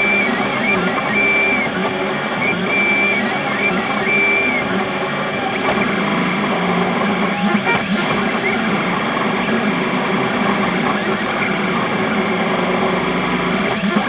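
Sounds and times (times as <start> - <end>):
high stepper motor whines: 0.0 - 14.0
printer motors whirring: 0.0 - 14.0.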